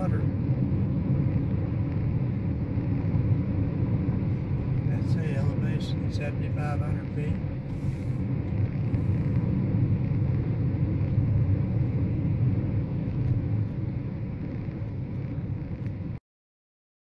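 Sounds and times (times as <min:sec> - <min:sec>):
car interior road rumble: 0:00.0 - 0:16.2.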